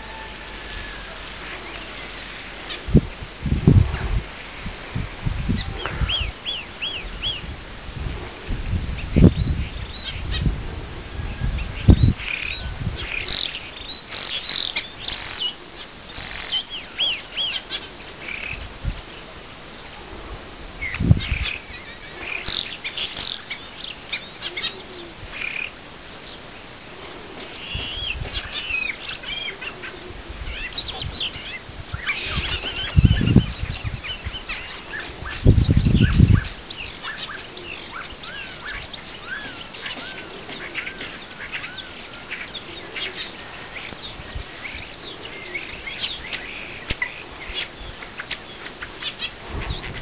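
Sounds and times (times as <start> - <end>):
small songbirds singing: 0.0 - 50.0.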